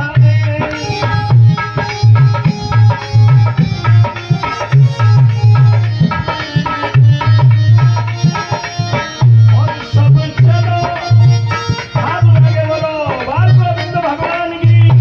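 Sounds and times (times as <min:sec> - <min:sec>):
hand drum fast rhythm: 0:00.0 - 0:15.0
held melody instrument: 0:00.0 - 0:15.0.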